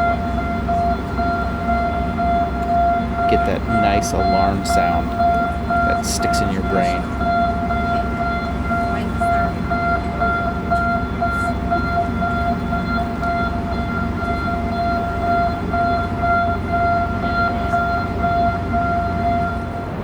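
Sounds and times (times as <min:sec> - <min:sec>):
pulsing electronic warning alarm: 0:00.0 - 0:20.0.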